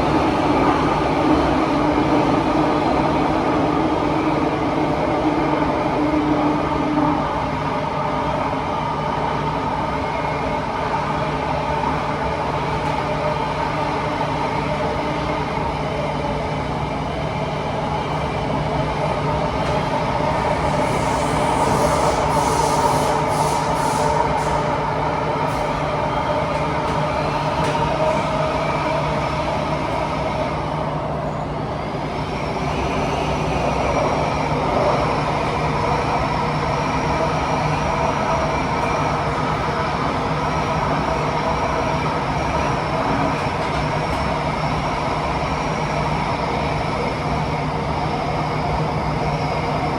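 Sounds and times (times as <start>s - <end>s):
train rolling rumble: 0.0s - 49.9s.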